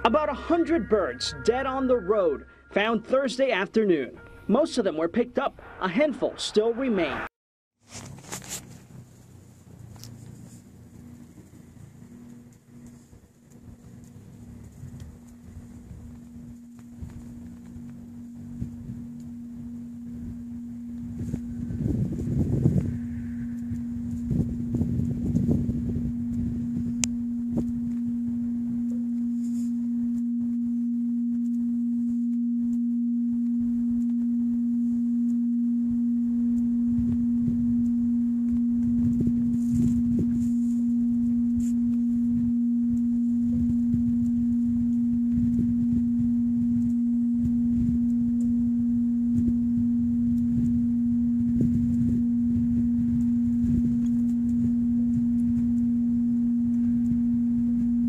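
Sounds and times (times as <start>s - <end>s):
steady low hum tone: 0.0s - 7.3s, 8.7s - 58.0s.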